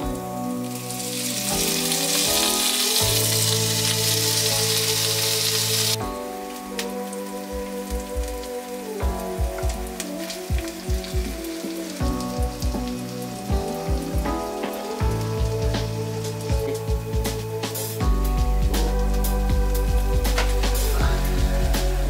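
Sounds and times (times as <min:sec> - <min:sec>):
garlic sizzling in hot oil: 0:00.0 - 0:18.1
background music: 0:00.0 - 0:22.0.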